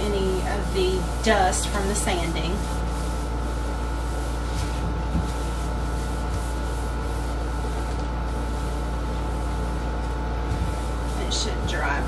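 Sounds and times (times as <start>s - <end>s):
air conditioner humming: 0.0s - 12.0s
paper towel rubbing on resin: 0.0s - 12.0s.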